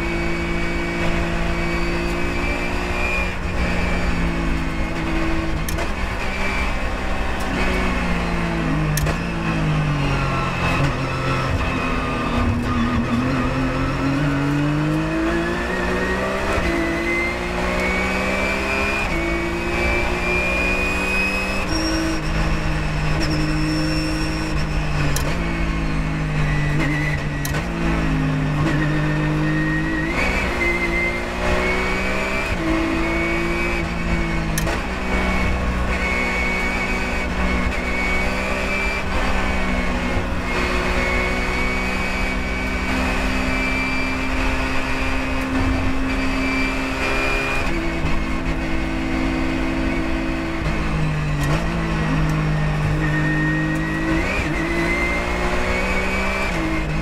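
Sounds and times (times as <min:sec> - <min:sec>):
race car engine under load: 0:00.0 - 0:57.0.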